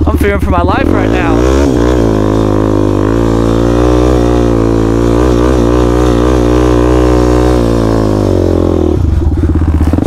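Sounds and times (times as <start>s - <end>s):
quad engine running: 0.0s - 10.0s.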